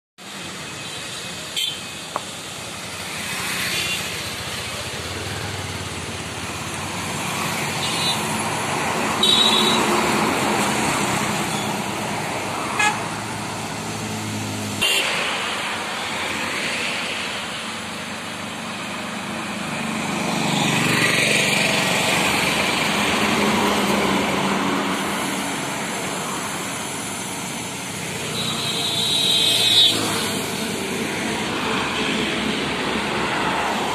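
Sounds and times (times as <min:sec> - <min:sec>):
highway traffic passing: 0:00.2 - 0:33.9.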